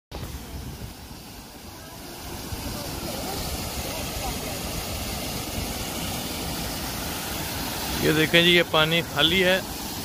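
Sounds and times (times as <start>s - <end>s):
water rushing through lock gate: 0.1s - 10.0s.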